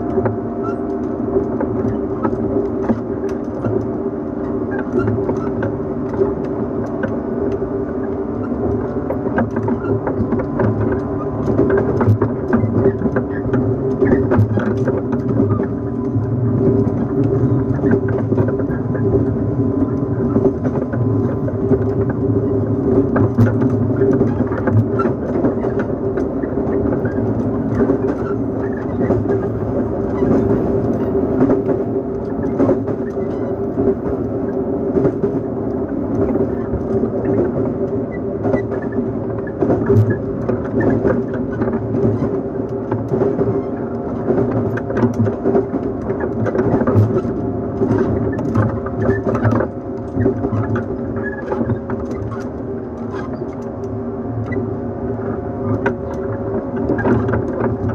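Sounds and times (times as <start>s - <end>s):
rumble of wheels on rail: 0.0s - 57.9s
train traction motors humming: 0.0s - 57.9s.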